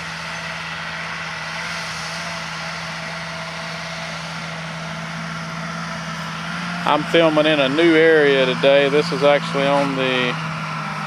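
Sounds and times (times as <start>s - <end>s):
engine running with hiss: 0.0s - 11.0s.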